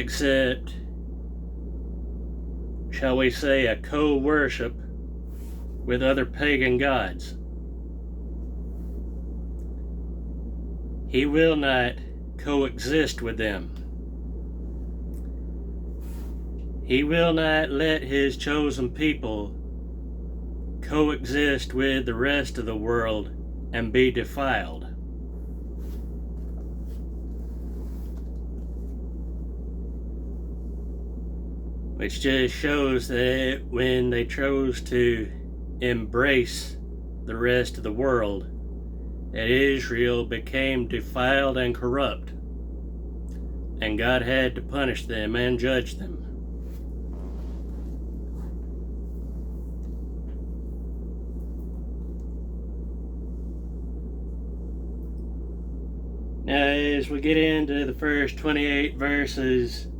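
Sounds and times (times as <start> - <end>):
low electrical hum with hiss: 0.0 - 59.9.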